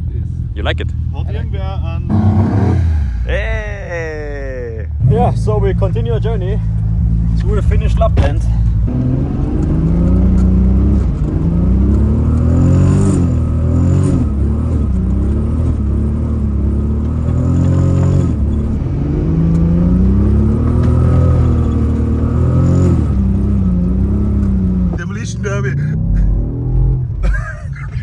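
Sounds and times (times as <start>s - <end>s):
car engine revving: 2.1s - 4.1s, 5.0s - 27.2s.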